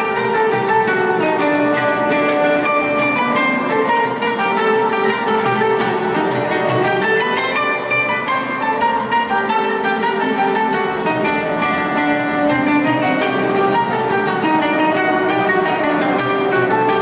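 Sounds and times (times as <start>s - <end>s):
erhu melody: 0.0s - 17.0s
hand drums: 0.0s - 17.0s
plucked classical guitar: 0.0s - 17.0s.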